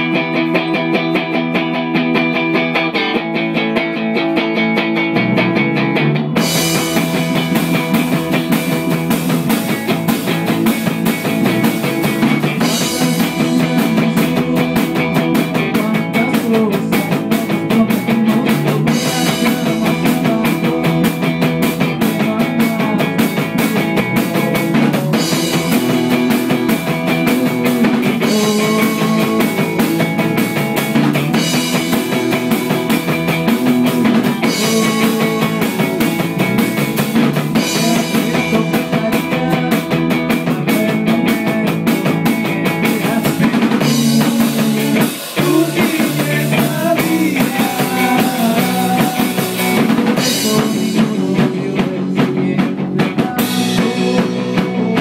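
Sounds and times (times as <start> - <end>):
bass notes: 0.0 - 55.0
drum kit: 0.0 - 55.0
electric guitar: 0.0 - 55.0.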